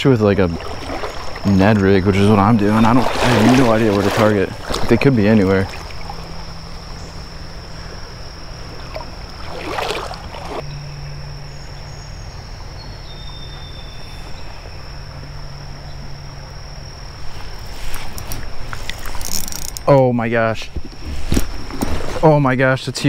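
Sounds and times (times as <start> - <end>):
high-pitched insect drone: 0.0 - 21.1
low steady hum: 0.0 - 23.0.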